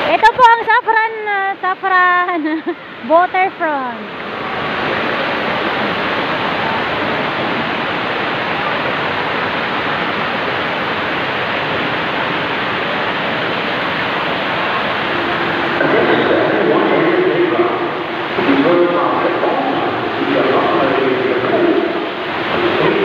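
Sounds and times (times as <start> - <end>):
fountain water rushing and spraying: 0.0 - 23.0.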